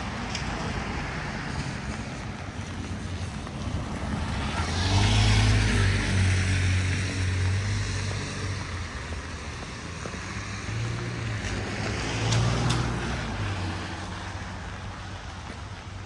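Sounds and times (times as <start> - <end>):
vehicle engine humming: 0.0 - 16.0
wet traffic: 0.0 - 16.0.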